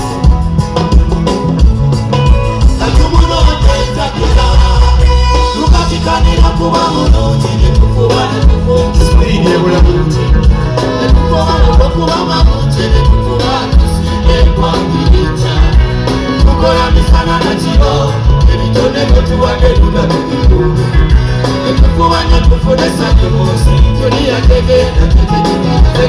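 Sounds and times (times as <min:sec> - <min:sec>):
loud live band music: 0:00.0 - 0:26.0
person singing: 0:02.7 - 0:26.0.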